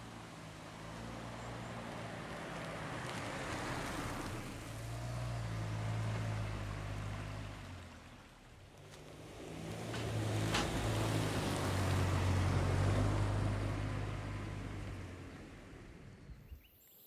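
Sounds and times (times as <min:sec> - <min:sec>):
road or wind noise: 0:00.0 - 0:16.6.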